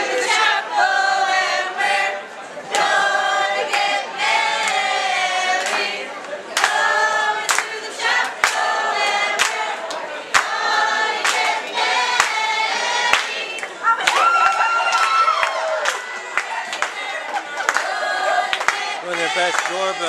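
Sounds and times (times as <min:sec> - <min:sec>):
people singing together: 0:00.0 - 0:14.1, 0:15.2 - 0:20.0.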